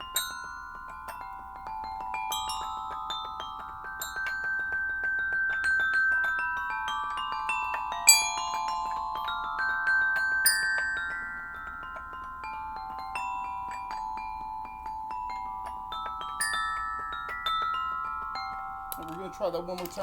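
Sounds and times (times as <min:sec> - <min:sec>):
toy xylophone notes: 0:00.0 - 0:20.0.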